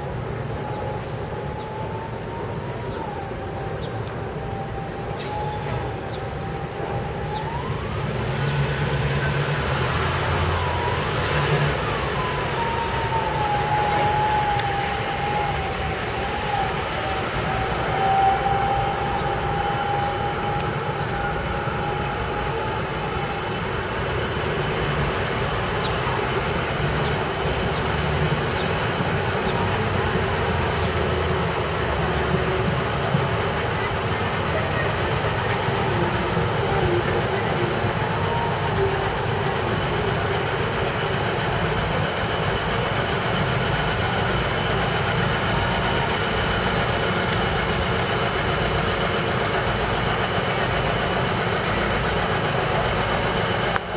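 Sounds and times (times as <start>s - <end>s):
streetcar rumbling on tracks: 0.0s - 53.9s
streetcar whining tone: 0.0s - 53.9s.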